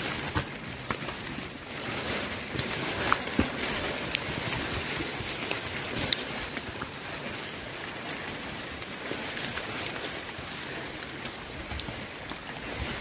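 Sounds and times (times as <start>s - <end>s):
faint ticks of raindrops: 0.0s - 13.0s
steady rain hiss: 0.0s - 13.0s.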